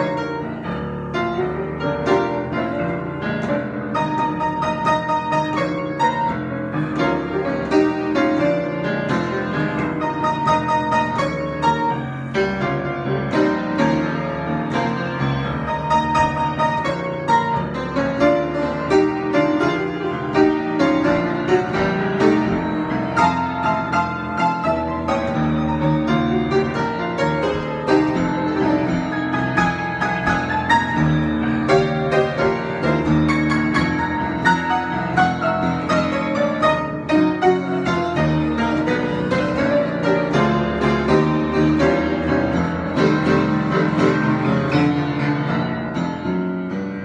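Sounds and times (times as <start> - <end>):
improvised piano: 0.0 - 47.0.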